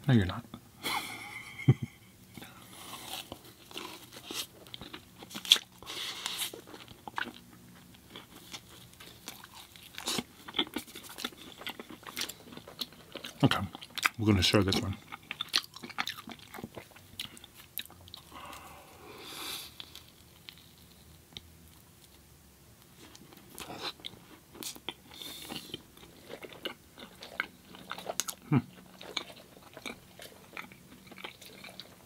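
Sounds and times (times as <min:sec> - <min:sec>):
person chewing food: 0:01.4 - 0:22.2, 0:22.8 - 0:32.0.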